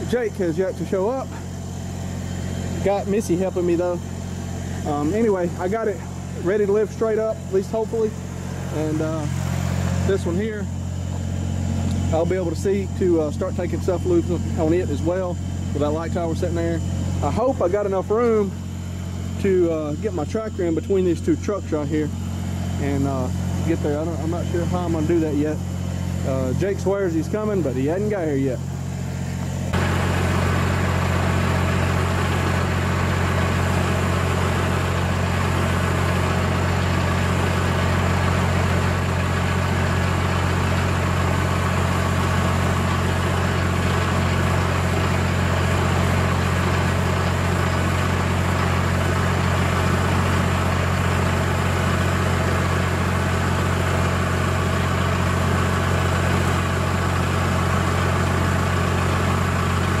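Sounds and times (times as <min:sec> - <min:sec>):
tractor engine idling: 0:00.0 - 1:00.0.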